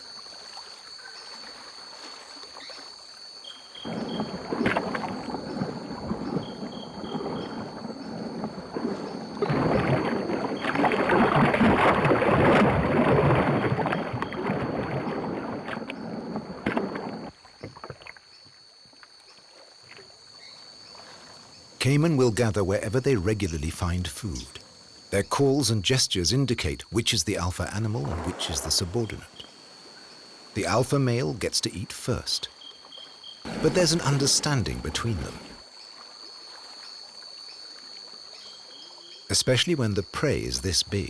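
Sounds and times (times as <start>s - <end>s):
high insect drone: 0.0s - 11.5s, 13.9s - 41.0s.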